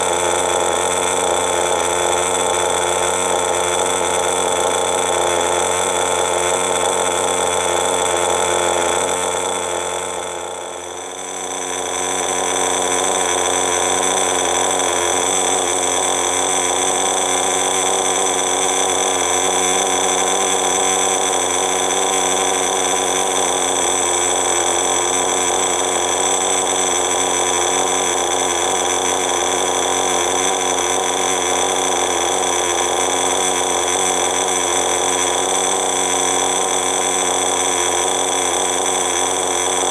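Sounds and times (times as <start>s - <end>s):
model engine running: 0.0s - 39.9s.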